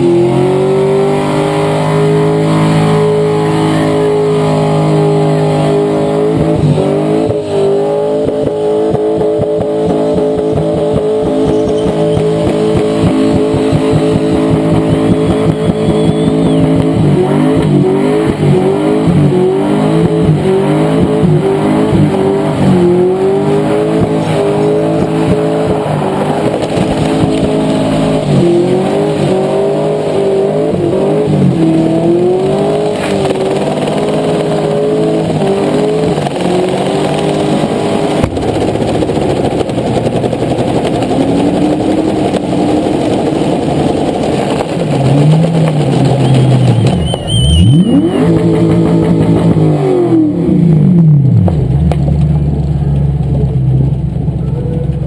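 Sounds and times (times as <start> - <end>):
car engine revving hard: 0.0 - 52.6.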